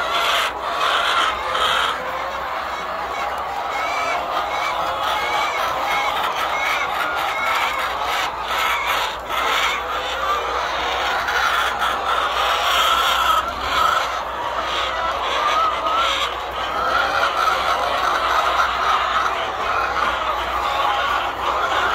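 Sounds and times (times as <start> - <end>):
hens clucking: 0.0 - 21.9.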